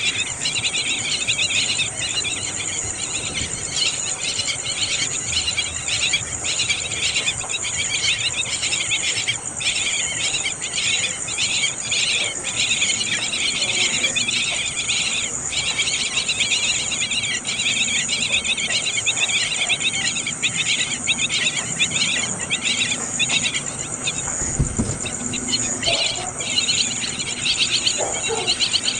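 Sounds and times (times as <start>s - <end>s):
steady high buzz: 0.0s - 28.9s
young songbirds chirping: 0.0s - 28.9s.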